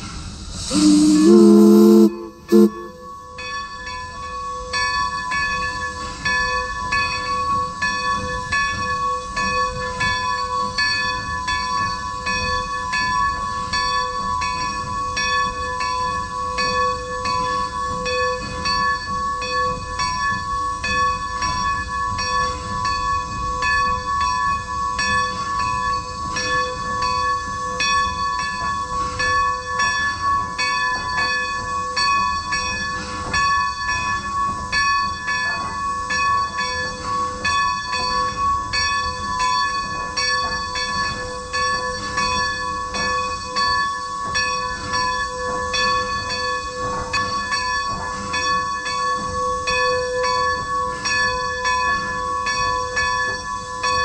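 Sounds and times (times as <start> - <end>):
locomotive bell ringing: 0.7 - 54.0.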